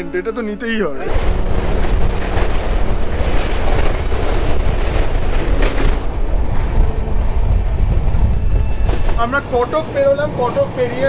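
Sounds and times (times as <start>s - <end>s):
train wheels rumbling on rails: 1.1s - 11.0s.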